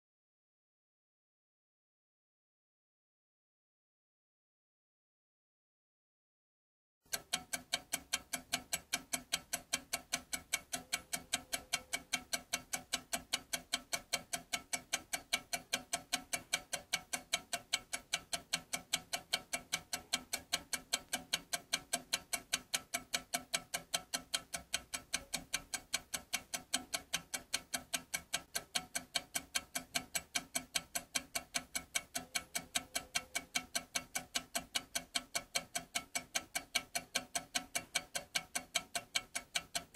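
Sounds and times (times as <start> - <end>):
clock ticking quickly: 7.1 - 39.9.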